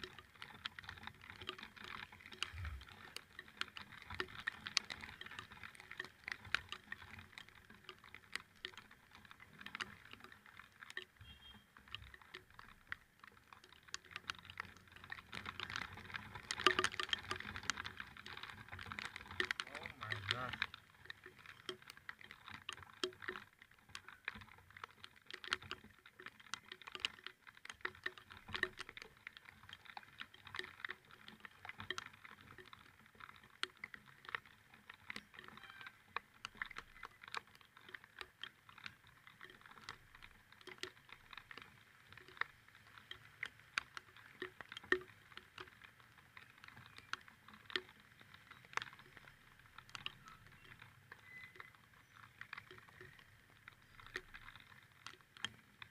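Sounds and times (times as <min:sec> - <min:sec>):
raindrops tapping on hard surface: 0:00.0 - 0:55.9.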